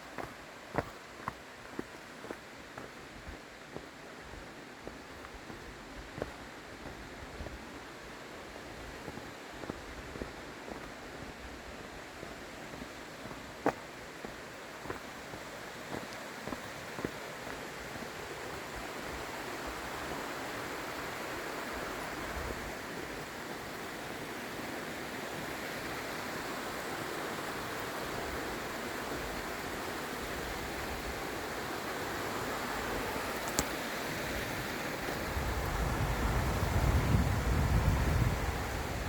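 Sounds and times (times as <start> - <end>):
fast-flowing water rushing: 0.0 - 39.0.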